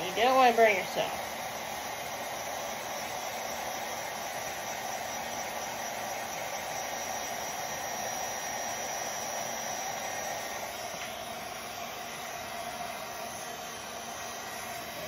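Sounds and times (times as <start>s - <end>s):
heat gun blowing: 0.0s - 15.0s.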